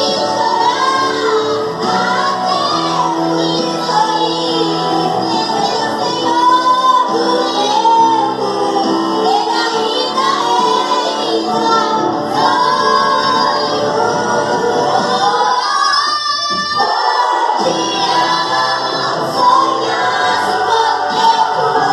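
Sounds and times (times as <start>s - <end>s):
sustained instrumental backing: 0.0s - 21.9s
women singing gospel: 0.0s - 21.9s.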